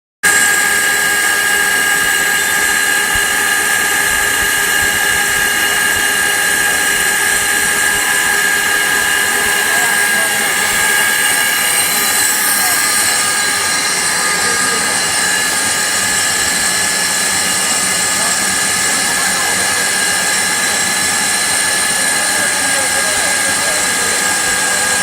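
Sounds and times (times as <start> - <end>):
lathe hiss and high whine: 0.3 - 25.0.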